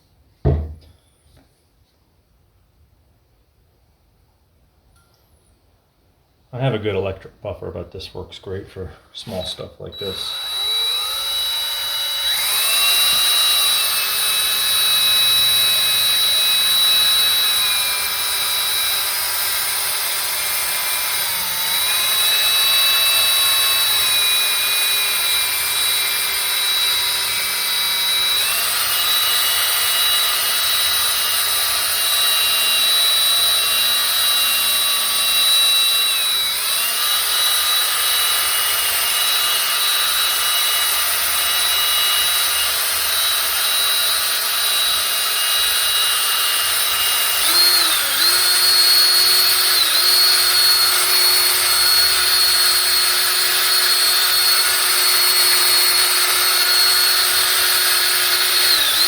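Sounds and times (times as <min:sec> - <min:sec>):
power tool motor whine: 0:09.3 - 0:59.0.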